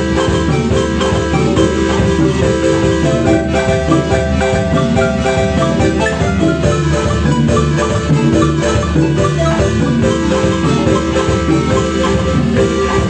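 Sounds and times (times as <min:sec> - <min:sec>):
low bass line: 0:00.0 - 0:13.0
marimba playing quick notes: 0:00.0 - 0:13.0.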